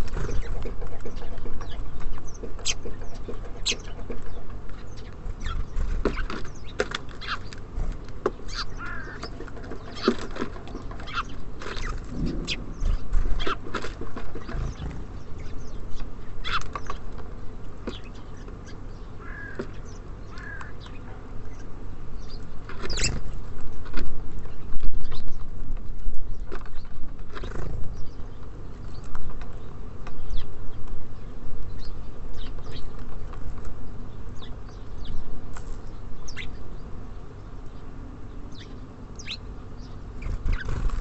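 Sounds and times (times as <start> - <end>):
birds pecking on feeder: 0.0 - 36.5, 39.7 - 41.0.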